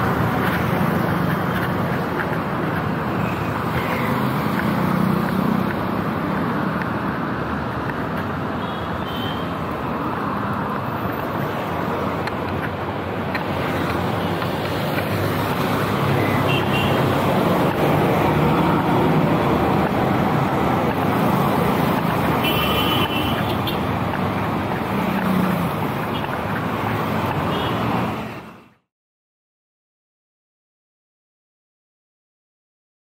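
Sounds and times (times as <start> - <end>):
road traffic rumble: 0.0 - 28.8.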